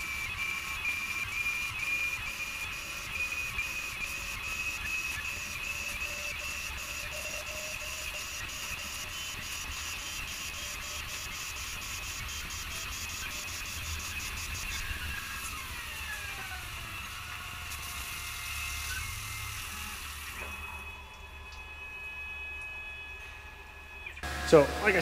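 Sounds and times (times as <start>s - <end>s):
lathe cutting and coolant hiss: 0.0s - 20.9s, 24.2s - 25.0s
machine hum: 0.0s - 25.0s
machine whine: 0.0s - 25.0s.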